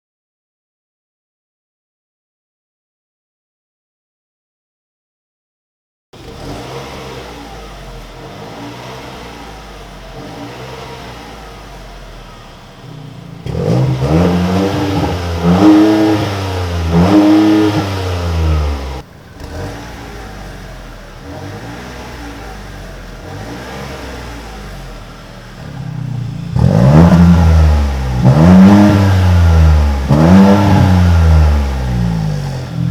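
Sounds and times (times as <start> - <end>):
car exhaust revving: 6.2 - 32.9.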